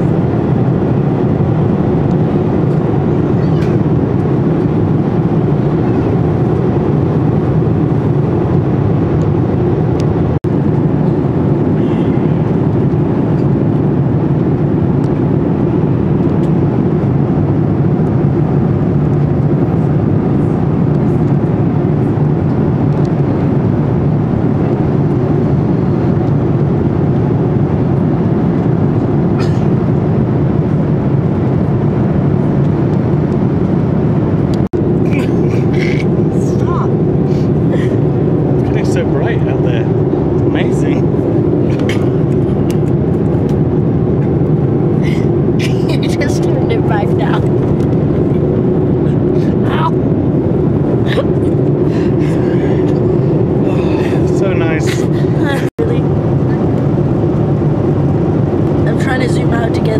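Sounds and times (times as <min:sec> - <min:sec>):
vehicle rumble from inside: 0:00.0 - 0:59.9.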